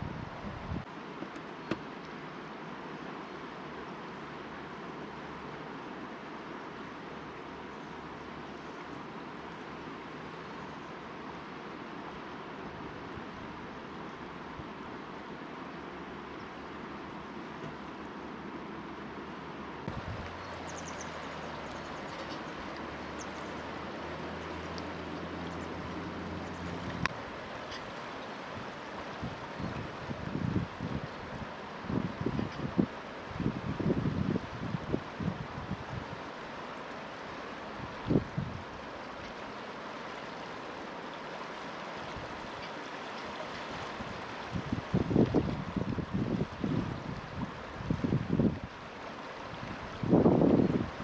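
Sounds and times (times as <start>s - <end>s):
river water rushing: 0.0s - 51.0s.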